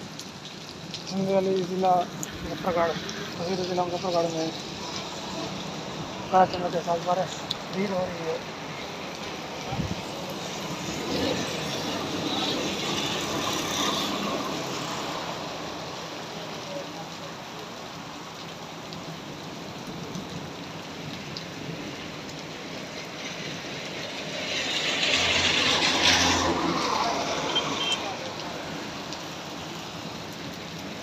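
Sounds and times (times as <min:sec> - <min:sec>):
heavy rain on water: 0:00.0 - 0:31.0
motorbike passing on wet road: 0:00.1 - 0:31.0.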